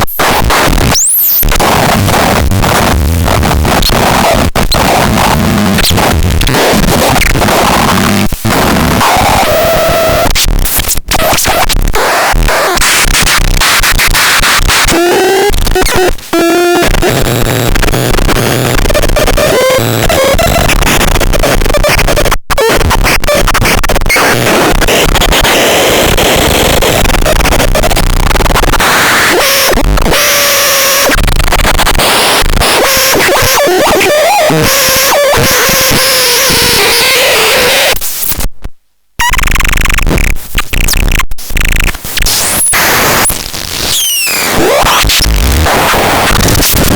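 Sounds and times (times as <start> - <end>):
harsh synthesizer noise with warbling tones: 0.0 - 38.4, 39.2 - 46.9.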